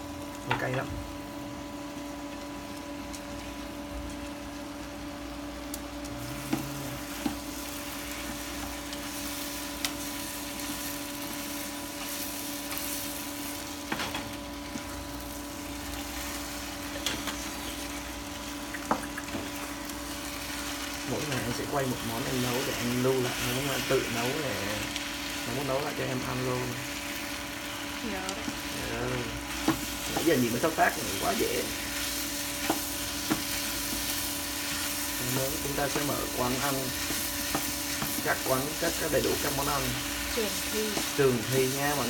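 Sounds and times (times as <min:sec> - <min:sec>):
food sizzling in frying pan: 0:00.0 - 0:42.0
steady hum: 0:00.0 - 0:42.0.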